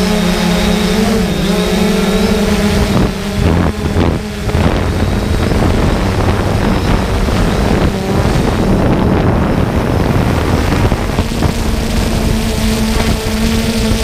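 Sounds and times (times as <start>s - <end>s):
drone propellers humming: 0.0s - 14.0s
wind on microphone: 0.0s - 14.0s.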